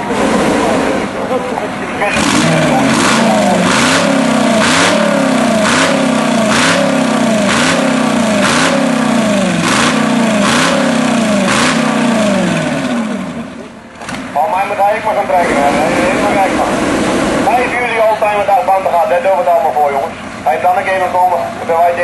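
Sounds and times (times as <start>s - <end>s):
tractor engine revving in blips: 0.0s - 22.0s.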